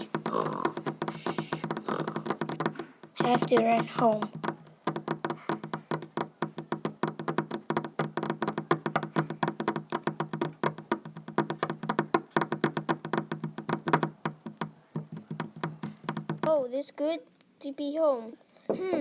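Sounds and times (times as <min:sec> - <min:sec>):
fast wooden taps: 0:00.0 - 0:16.7.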